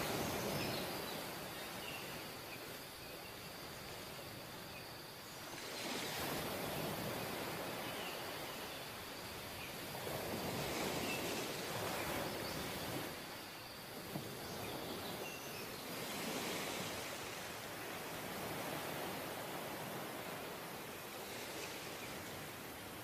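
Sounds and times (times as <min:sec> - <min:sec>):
surf washing up a beach: 0:00.0 - 0:23.0.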